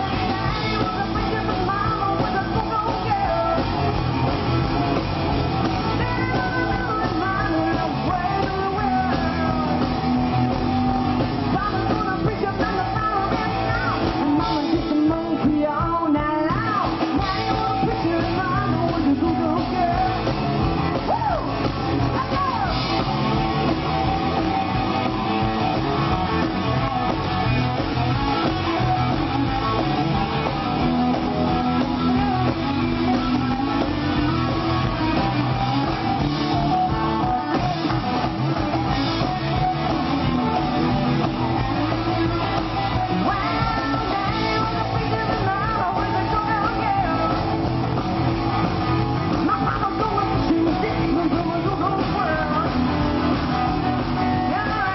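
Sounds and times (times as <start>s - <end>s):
person singing: 0.0s - 4.0s, 5.6s - 23.1s, 25.4s - 47.7s, 49.3s - 54.9s
bass guitar: 0.0s - 54.9s
electric guitar: 0.0s - 54.9s.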